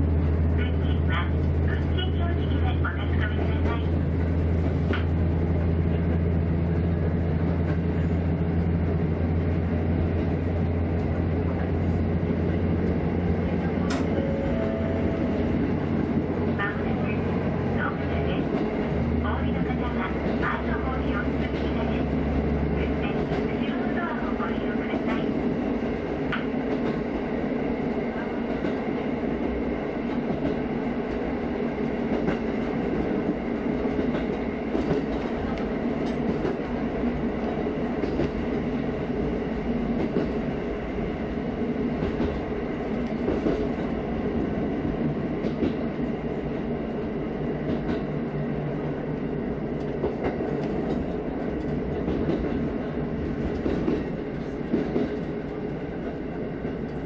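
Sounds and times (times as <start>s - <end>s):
railcar engine running: 0.0s - 57.0s.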